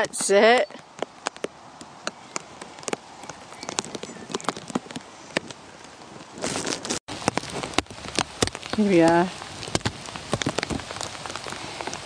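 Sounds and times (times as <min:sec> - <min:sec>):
raindrops tapping on plastic bag: 0:00.0 - 0:12.0
rustling: 0:00.3 - 0:12.0.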